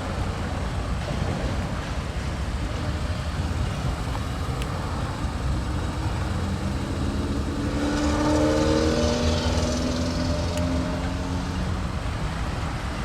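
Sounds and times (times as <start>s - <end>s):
motor vehicle rumble: 0.0s - 13.0s
rising engine drone: 0.0s - 13.0s.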